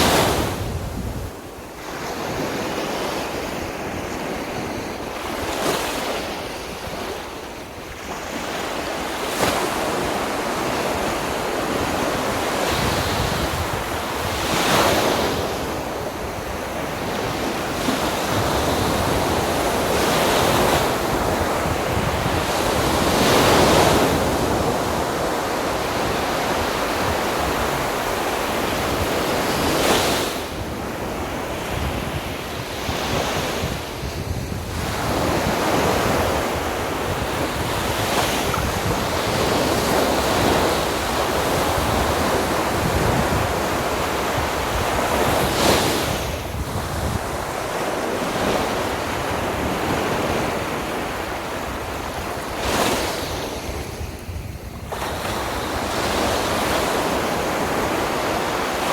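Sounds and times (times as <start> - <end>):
sea waves breaking on beach: 0.0 - 58.9
wind buffeting microphone: 0.0 - 58.9.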